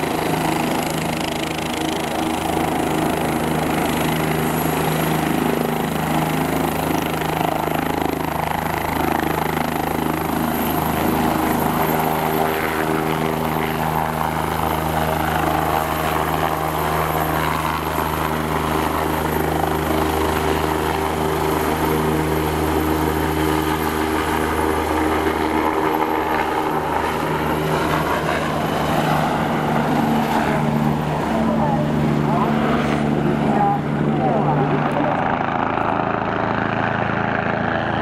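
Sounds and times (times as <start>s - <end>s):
helicopter taking off: 0.0s - 38.0s.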